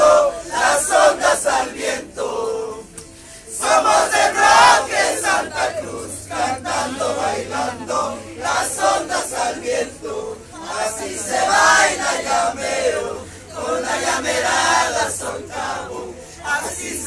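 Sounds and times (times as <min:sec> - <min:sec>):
crowd singing: 0:00.0 - 0:17.0.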